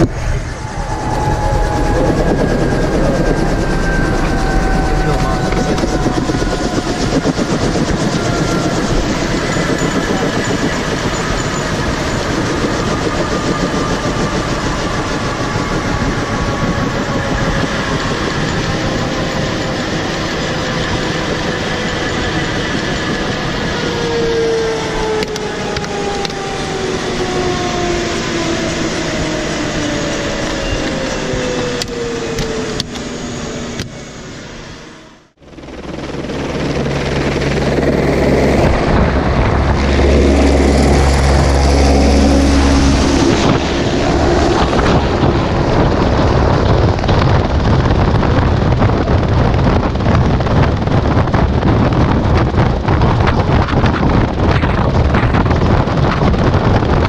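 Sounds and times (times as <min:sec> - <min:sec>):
helicopter turbine and rotor running: 0:00.0 - 0:57.0.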